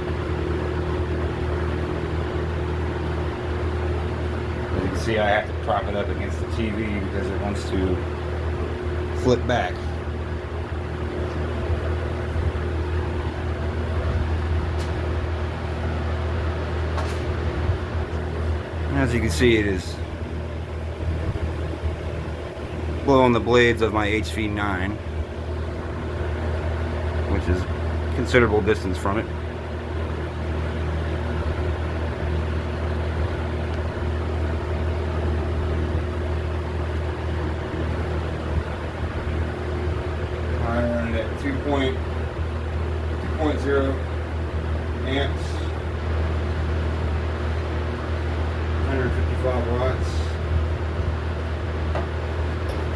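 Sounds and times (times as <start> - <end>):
box fan motor hum: 0.0 - 52.9
rushing air from fan: 0.0 - 52.9.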